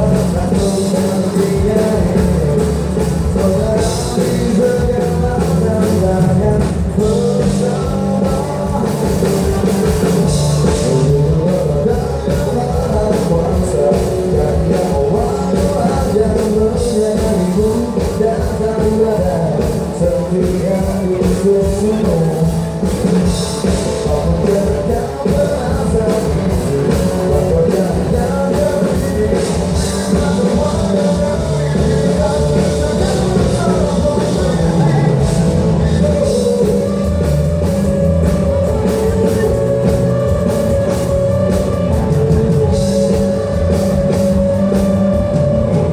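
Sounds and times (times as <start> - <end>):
live rock band: 0.0 - 45.9
person singing lead vocal: 0.0 - 45.9.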